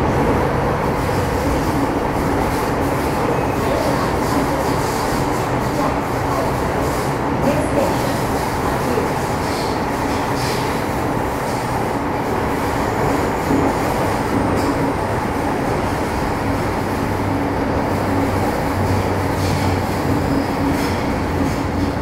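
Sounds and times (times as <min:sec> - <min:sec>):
train wheel and rail rumble: 0:00.0 - 0:22.0.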